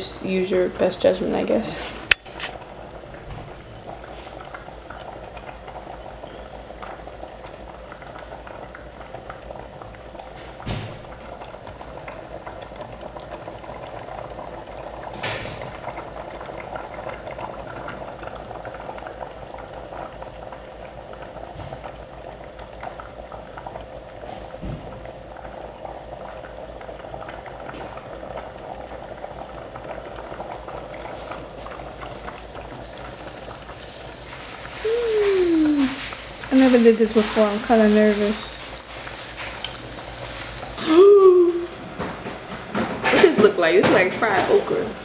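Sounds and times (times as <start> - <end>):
pot of water bubbling: 0.0 - 45.0.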